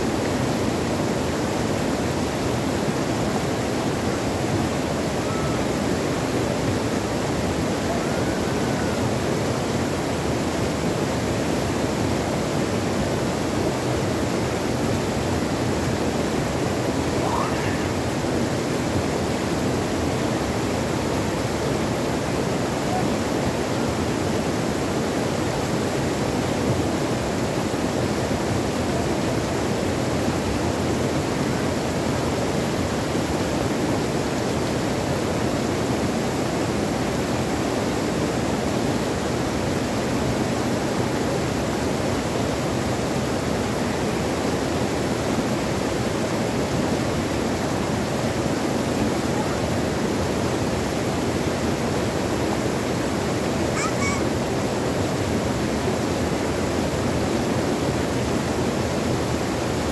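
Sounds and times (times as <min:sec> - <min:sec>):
stream rushing over boulders: 0:00.0 - 0:59.9.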